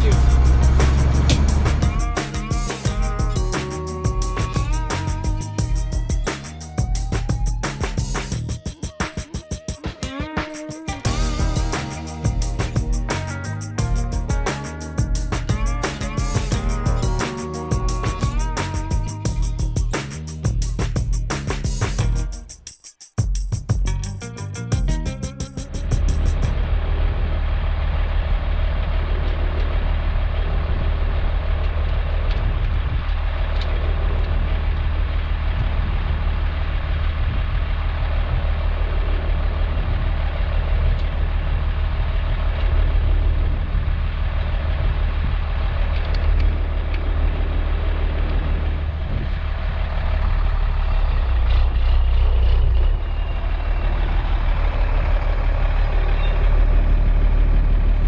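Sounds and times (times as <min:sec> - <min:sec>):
diesel engine running: 0:00.0 - 0:08.6, 0:11.0 - 0:22.3, 0:24.0 - 0:58.0.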